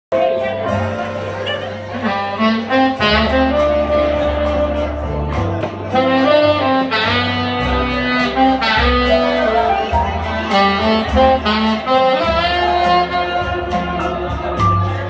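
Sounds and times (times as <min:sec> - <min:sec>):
backing track with bass line: 0:00.1 - 0:15.0
tenor saxophone melody: 0:00.7 - 0:14.4.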